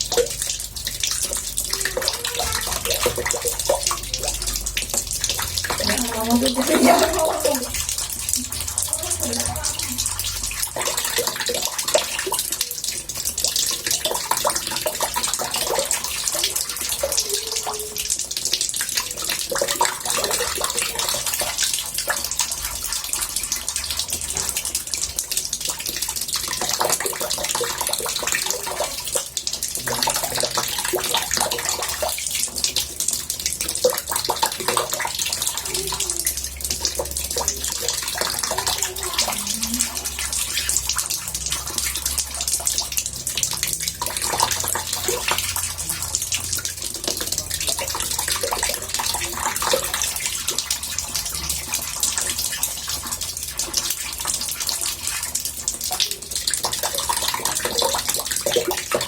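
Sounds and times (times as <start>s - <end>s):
bubbling gurgles: 0.0s - 59.0s
water running into bathtub: 0.0s - 59.0s.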